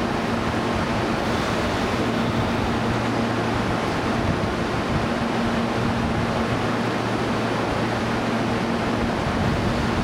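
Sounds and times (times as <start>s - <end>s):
train air conditioning hiss: 0.0s - 10.0s.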